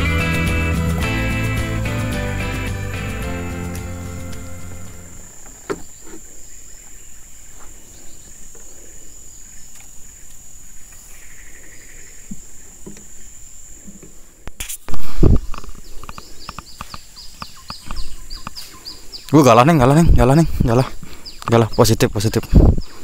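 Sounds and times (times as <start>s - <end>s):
insect trill: 3.5s - 23.0s.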